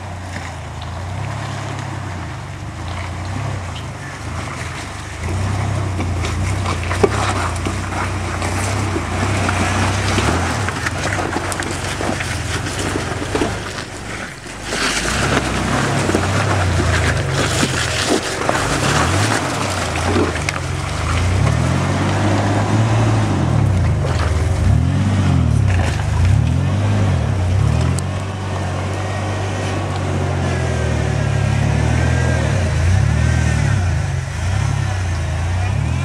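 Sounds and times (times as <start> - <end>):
truck engine running under load: 0.0 - 36.0.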